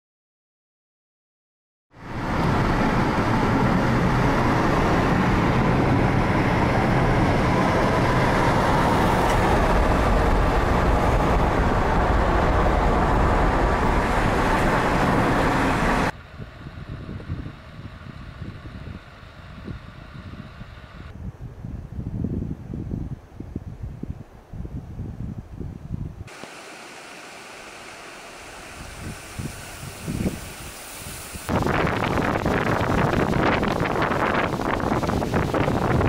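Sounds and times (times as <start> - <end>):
road and wind noise: 1.9 - 36.0.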